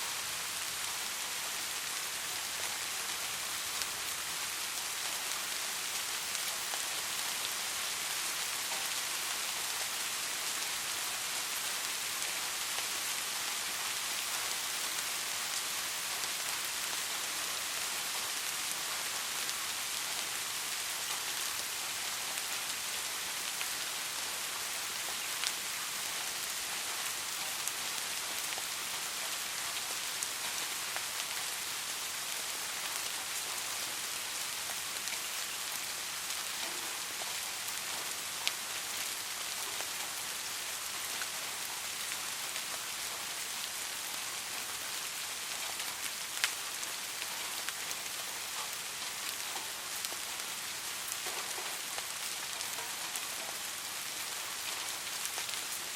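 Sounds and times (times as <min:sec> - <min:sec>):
soft rain hiss: 0:00.0 - 0:55.9.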